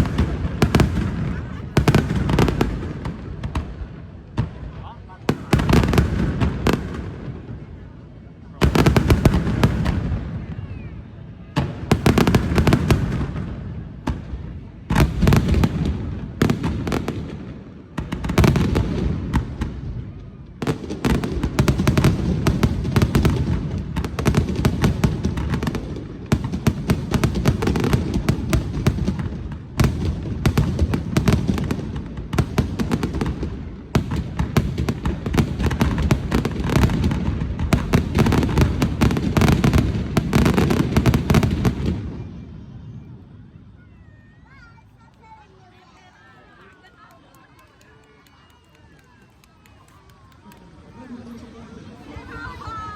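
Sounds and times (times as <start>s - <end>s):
fireworks bangs and crackles: 0.0s - 45.6s.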